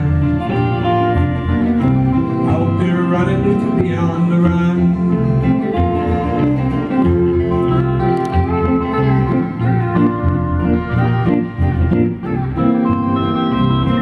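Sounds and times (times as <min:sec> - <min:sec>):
bass line: 0:00.0 - 0:14.0
country guitar lead: 0:00.0 - 0:14.0.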